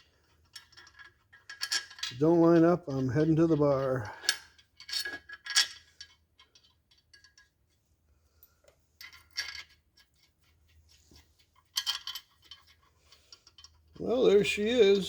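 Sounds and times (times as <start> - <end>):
metal bolts clicking and clinking: 0.0 - 7.6, 9.0 - 15.0.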